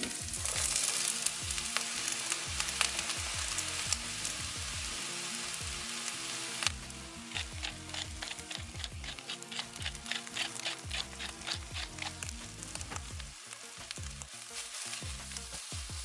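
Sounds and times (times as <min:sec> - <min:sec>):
background music with steady beat: 0:00.0 - 0:16.0
vegetables sizzling in hot oil: 0:00.0 - 0:16.0.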